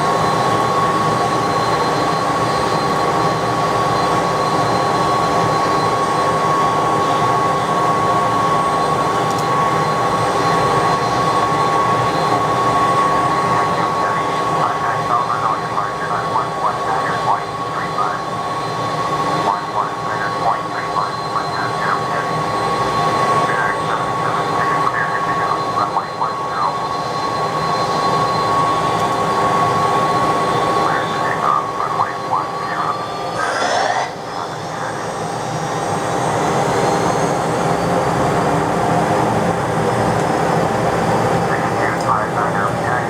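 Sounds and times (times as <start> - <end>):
jet engines whining and rumbling: 0.0 - 43.0.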